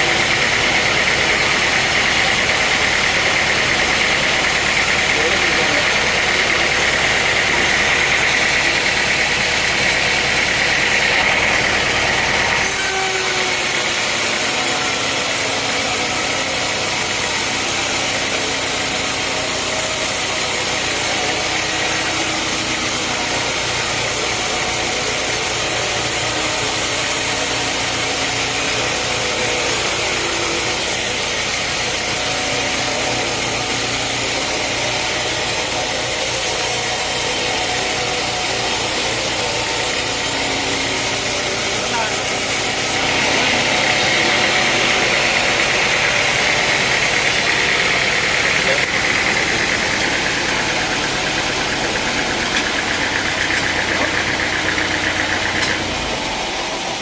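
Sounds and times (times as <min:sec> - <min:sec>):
engine humming: 0:00.0 - 0:57.0
sawing wood: 0:00.0 - 0:57.0.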